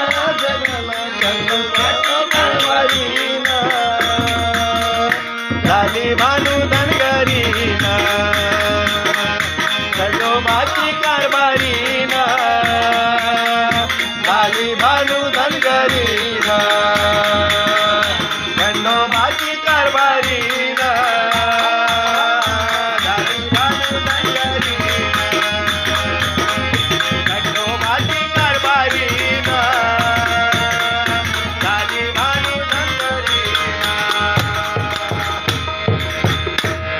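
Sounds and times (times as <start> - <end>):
hand drums: 0.0 - 36.9.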